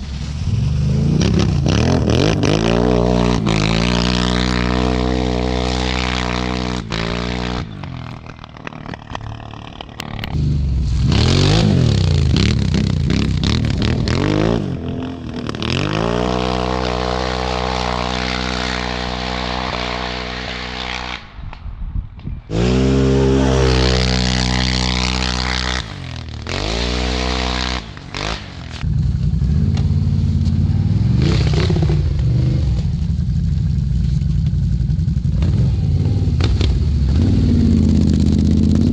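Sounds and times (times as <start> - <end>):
atv engine revving: 0.3 - 21.4, 22.5 - 38.9.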